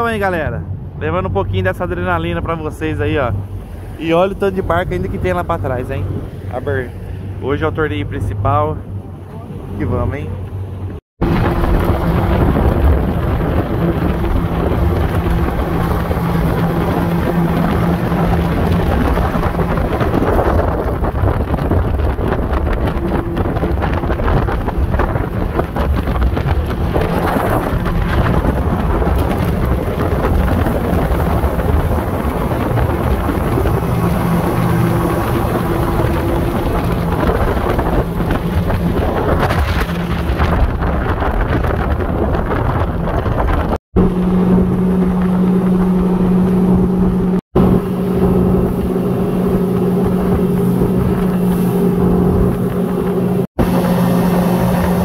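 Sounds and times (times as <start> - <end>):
motorboat engine humming: 0.0 - 55.0
wind buffeting microphone: 0.0 - 55.0.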